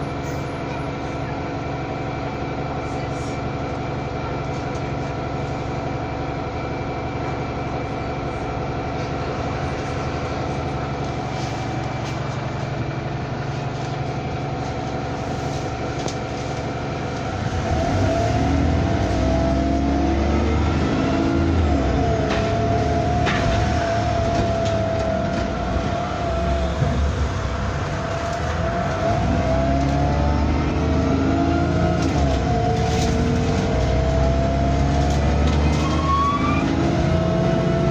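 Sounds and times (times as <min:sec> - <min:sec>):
bus engine running: 0:00.0 - 0:37.9.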